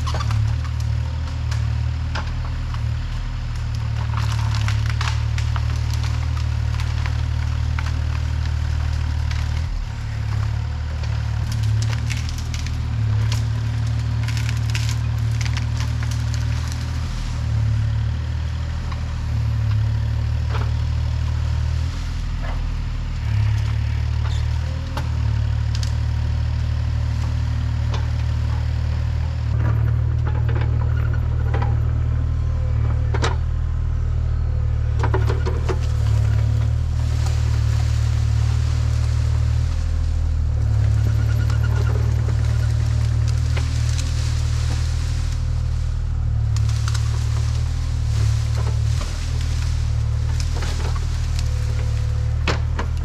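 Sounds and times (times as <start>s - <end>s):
wood cracking and splintering: 0.0s - 31.8s, 34.9s - 53.0s
heavy machine engine humming: 0.0s - 53.0s.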